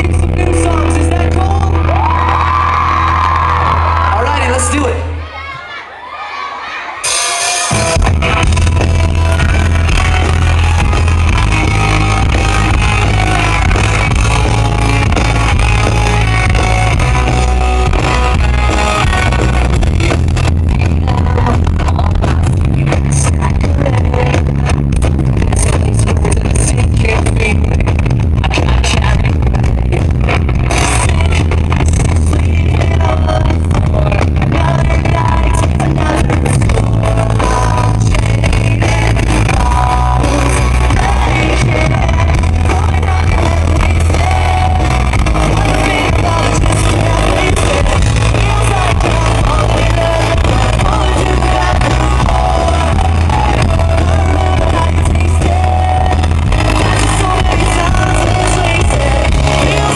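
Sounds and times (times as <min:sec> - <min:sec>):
live rock band playing: 0:00.0 - 0:05.2, 0:06.9 - 0:59.9
person singing: 0:07.1 - 0:27.8, 0:28.4 - 0:59.9.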